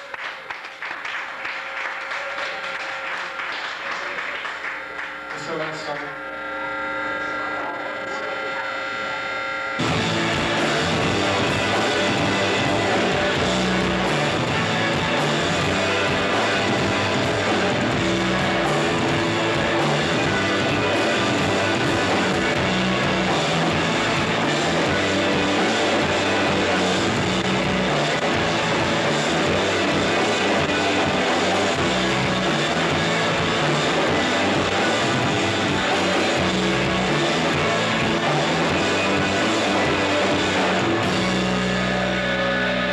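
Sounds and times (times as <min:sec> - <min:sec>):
loud electric guitars: 0:00.0 - 0:42.9
bass notes: 0:04.5 - 0:42.9.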